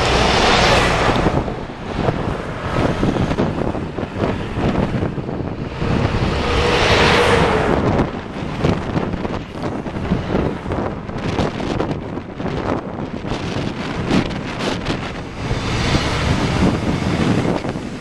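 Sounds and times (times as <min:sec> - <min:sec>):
low traffic rumble: 0:00.0 - 0:18.0
wind buffeting microphone: 0:00.0 - 0:18.0.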